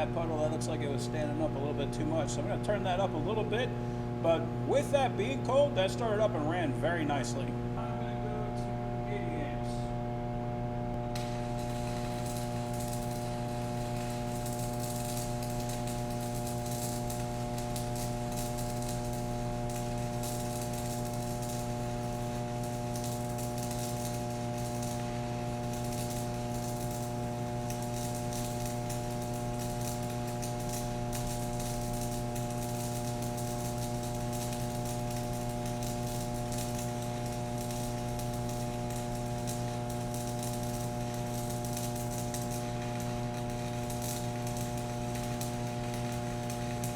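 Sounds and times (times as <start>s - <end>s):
electrical hum: 0.0s - 46.9s
welding arc crackling and sizzling: 0.0s - 46.9s.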